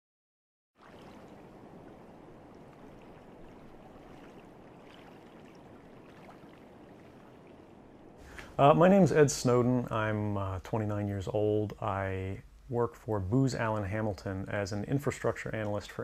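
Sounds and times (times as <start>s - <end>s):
distant boats: 0.8s - 16.0s
water rumble: 0.8s - 16.0s.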